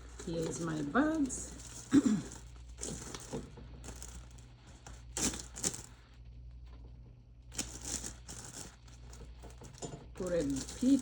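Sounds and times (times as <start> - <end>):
plastic bags rustling and crinkling: 0.0 - 6.1, 7.5 - 11.0.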